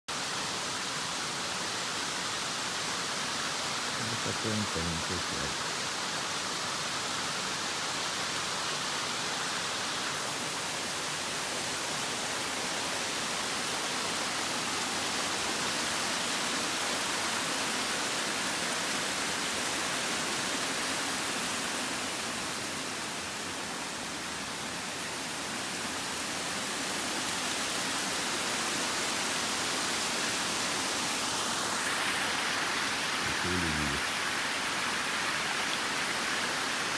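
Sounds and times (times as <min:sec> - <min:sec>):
waterfall rushing: 0:03.2 - 0:06.2, 0:07.1 - 0:36.9.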